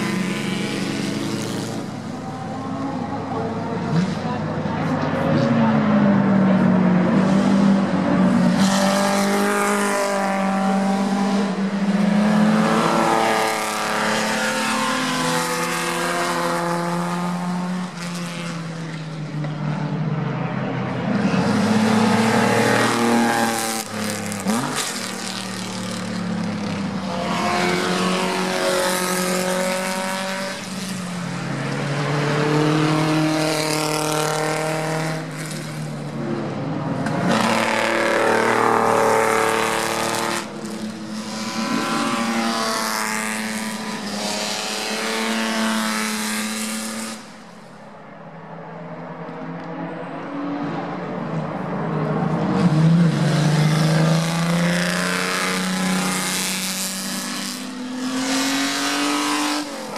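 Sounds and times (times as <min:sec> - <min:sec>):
racing cars passing at speed: 0:00.0 - 0:59.9.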